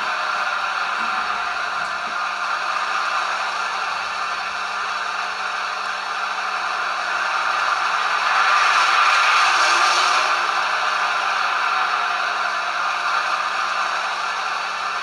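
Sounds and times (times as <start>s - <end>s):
diesel engine sound through small speaker: 0.0s - 15.0s.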